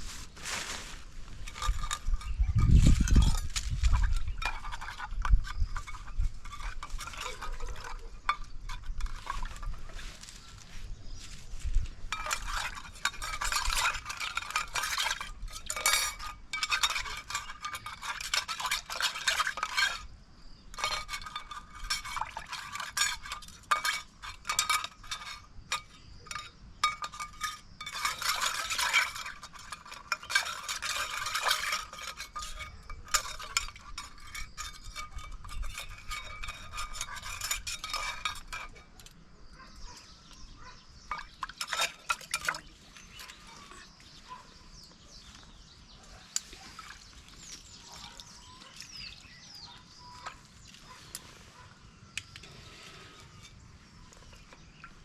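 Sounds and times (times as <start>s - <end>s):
metal cookware stirred and scraped: 1.3s - 10.0s, 12.1s - 45.7s, 52.0s - 55.0s.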